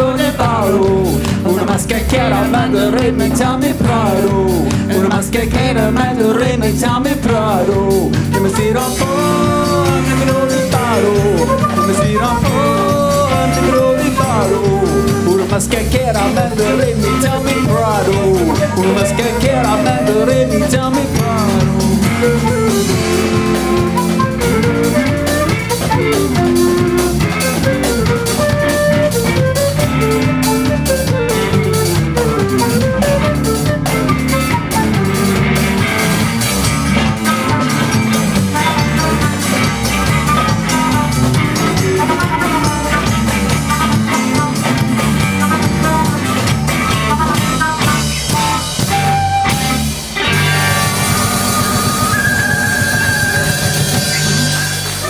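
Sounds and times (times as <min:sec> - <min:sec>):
bass: 0:00.0 - 0:55.0
drum kit: 0:00.0 - 0:55.0
electric guitar: 0:00.0 - 0:55.0
hand drums: 0:00.0 - 0:55.0
flute melody: 0:05.6 - 0:55.0.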